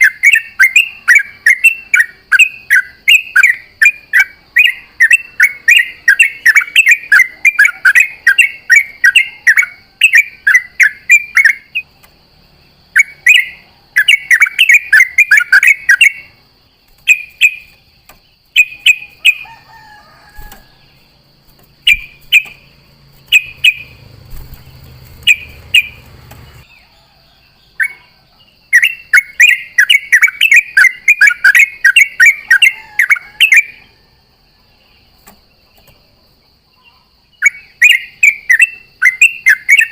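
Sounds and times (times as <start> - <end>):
bulbul chattering song: 0.0 - 26.9, 27.6 - 34.0, 36.6 - 39.9.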